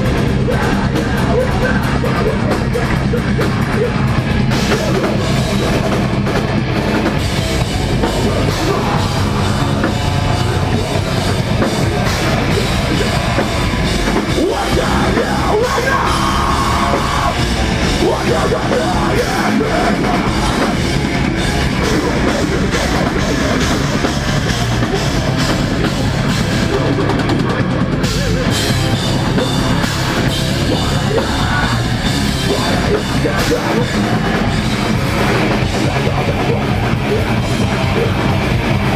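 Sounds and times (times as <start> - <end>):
vocals into a microphone: 0.0 - 6.4, 7.6 - 38.9
distorted electric guitars: 0.0 - 38.9
drum kit: 0.0 - 38.9.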